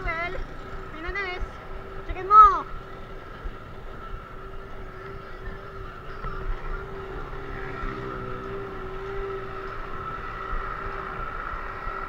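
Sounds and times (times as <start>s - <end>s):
low road rumble: 0.0s - 12.0s
steady humming drone: 0.0s - 12.0s.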